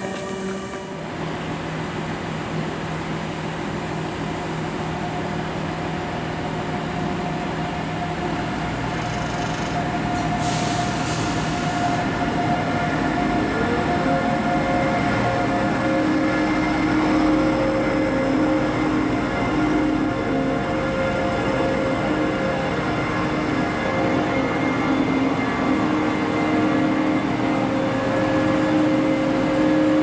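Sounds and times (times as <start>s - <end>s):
diesel locomotive engine: 0.0s - 30.0s.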